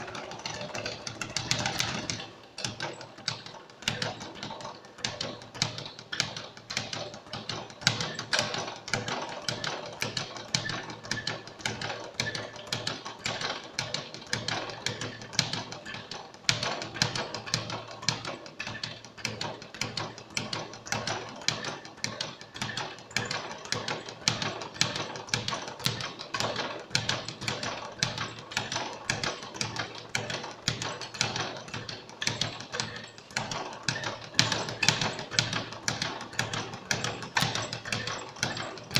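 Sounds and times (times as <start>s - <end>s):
speed bag drumming: 0.0s - 38.9s.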